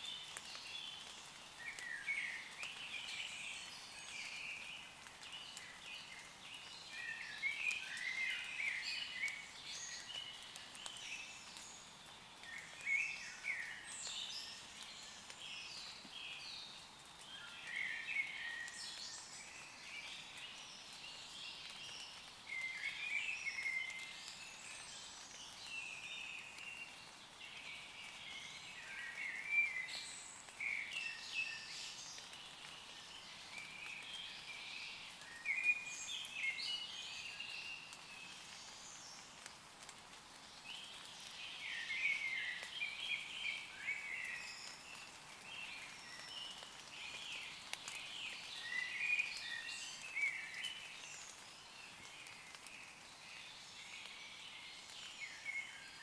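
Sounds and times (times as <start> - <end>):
faint light rain hiss: 0.0 - 56.0.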